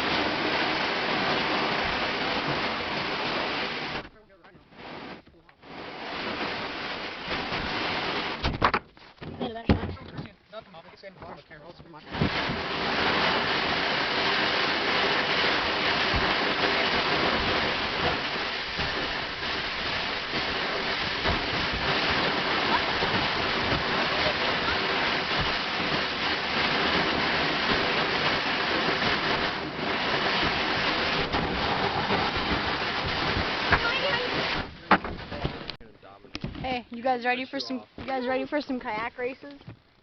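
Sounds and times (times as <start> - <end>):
loud rushing hiss: 0.0 - 8.5, 12.1 - 35.8.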